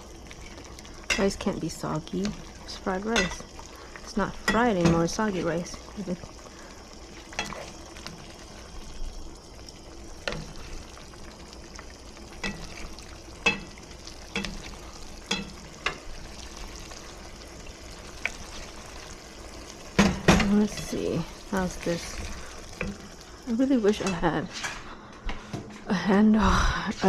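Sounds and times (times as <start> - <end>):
rice sizzling in a pan: 0.0 - 25.0.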